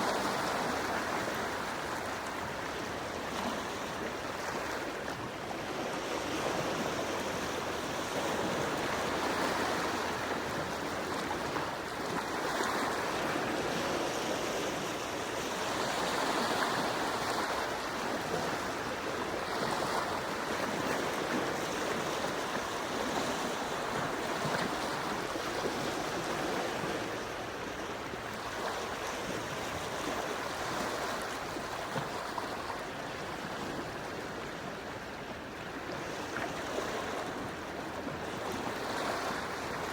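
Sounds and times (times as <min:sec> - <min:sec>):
gentle sea waves washing ashore: 0:00.0 - 0:39.9.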